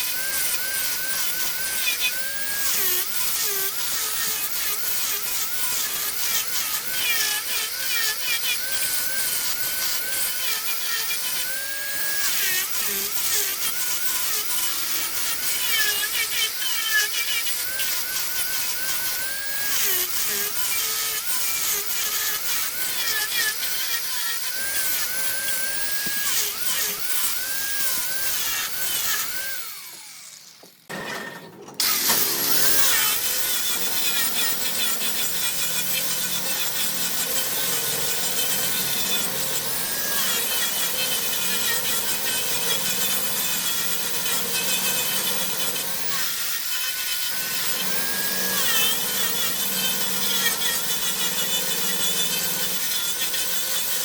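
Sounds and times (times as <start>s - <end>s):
lathe tool cutting spinning wood: 0.0s - 54.0s.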